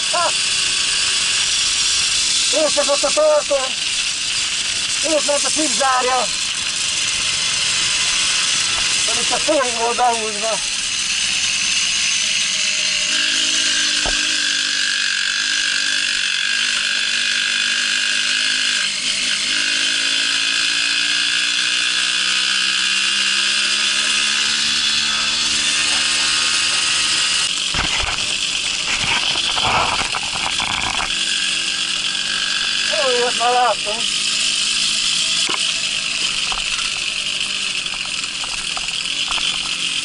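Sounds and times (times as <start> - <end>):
moped engine running: 0.0 - 40.0.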